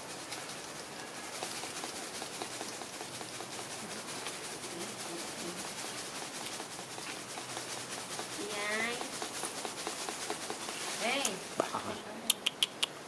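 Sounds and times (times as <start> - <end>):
steady high hiss: 0.0 - 13.0
faint scattered ticks: 0.1 - 11.7, 12.3 - 13.0.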